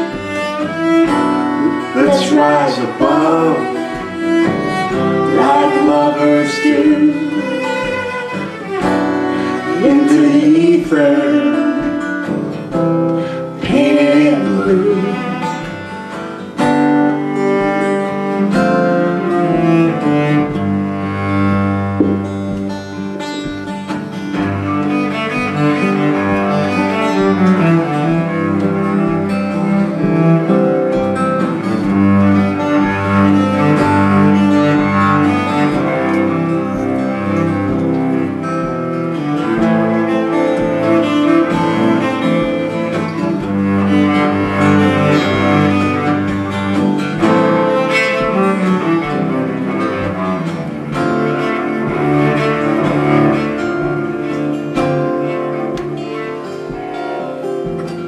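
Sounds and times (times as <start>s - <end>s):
cello melody: 0.0s - 58.0s
strummed acoustic guitar: 0.0s - 58.0s.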